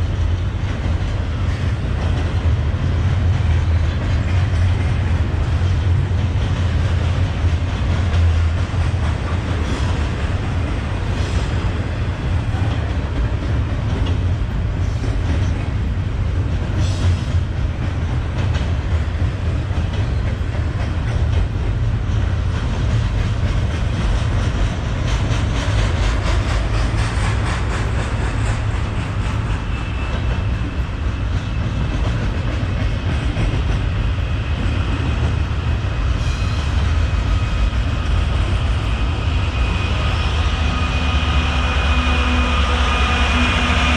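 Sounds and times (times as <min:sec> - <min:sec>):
freight train rumbling past: 0:00.0 - 0:43.9.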